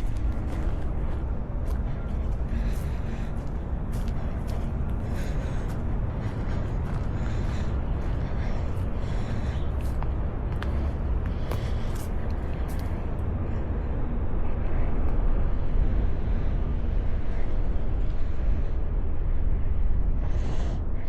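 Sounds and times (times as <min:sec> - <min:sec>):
wind buffeting microphone: 0:00.0 - 0:20.2.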